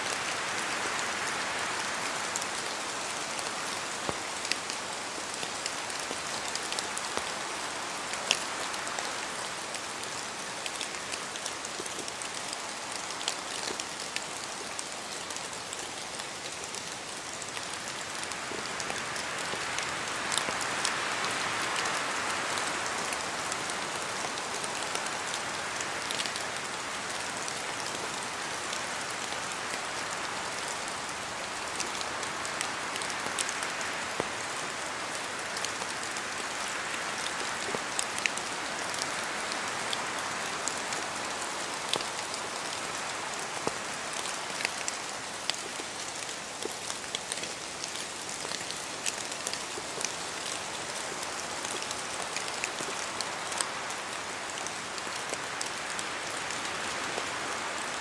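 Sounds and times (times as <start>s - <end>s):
rain in a forest: 0.0s - 58.0s.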